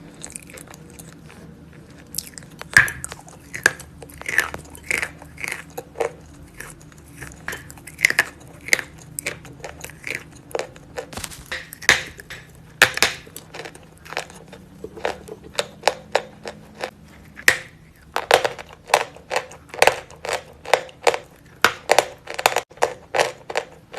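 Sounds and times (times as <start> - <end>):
crunchy chewing: 0.0 - 23.9.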